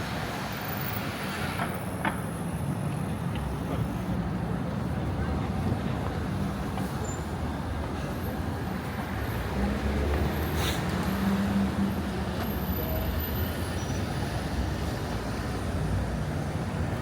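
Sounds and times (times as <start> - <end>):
street traffic passing: 0.0 - 17.0.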